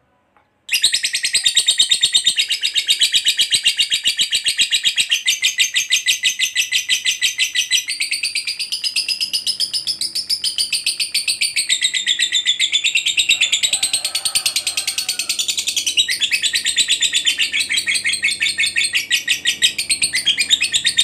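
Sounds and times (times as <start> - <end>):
lovebird chattering trill: 0.7 - 21.0.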